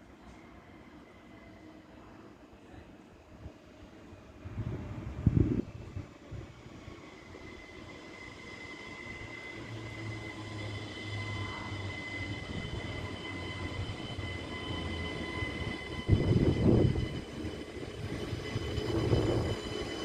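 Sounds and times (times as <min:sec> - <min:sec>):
electric train whine and hum: 0:00.0 - 0:20.0.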